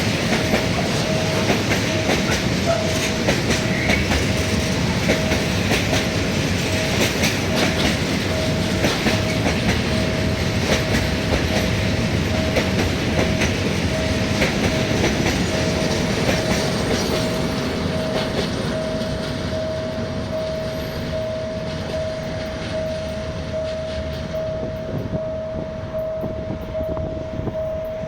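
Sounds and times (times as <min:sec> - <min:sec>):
wheels clattering over rail joints: 0:00.0 - 0:25.2
steady whine: 0:00.0 - 0:28.0.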